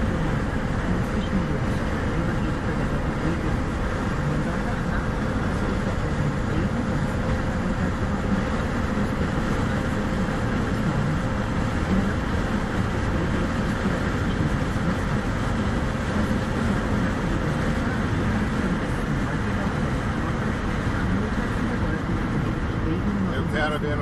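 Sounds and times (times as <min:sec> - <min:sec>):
car cabin road noise: 0:00.0 - 0:24.0.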